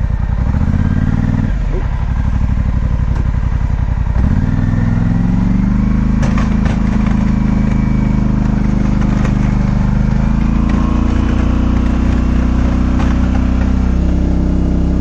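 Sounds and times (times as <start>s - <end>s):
atv engine pulling: 0.0s - 15.0s
plow pushing snow: 0.0s - 15.0s.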